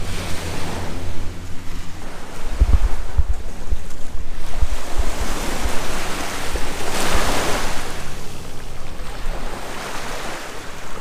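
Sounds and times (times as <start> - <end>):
small waves washing onto sand: 0.0 - 11.0
wind buffeting microphone: 0.0 - 11.0.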